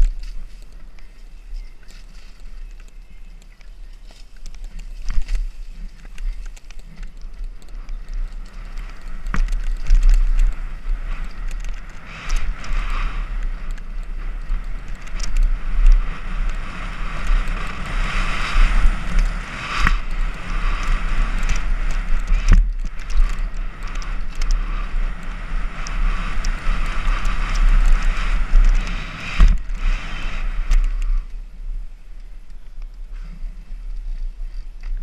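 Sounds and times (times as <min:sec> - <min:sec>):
wind buffeting camera: 0:00.0 - 0:35.0
bike knocking on bumps: 0:01.8 - 0:31.2.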